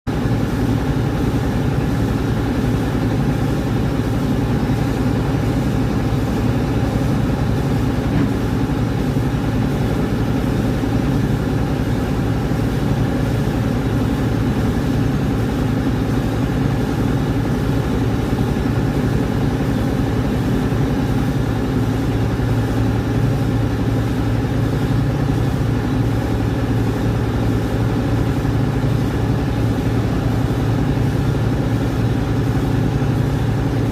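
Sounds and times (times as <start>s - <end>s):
rice huller machine humming: 0.1s - 33.9s.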